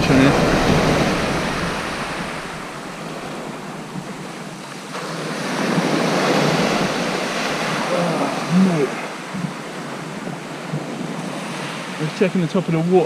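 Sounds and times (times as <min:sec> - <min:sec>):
sea surf breaking: 0:00.0 - 0:13.0
wind on microphone: 0:00.0 - 0:13.0.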